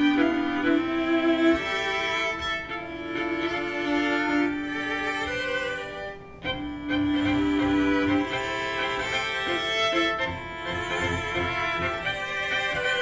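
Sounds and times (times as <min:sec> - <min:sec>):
string ensemble playing: 0:00.0 - 0:13.0.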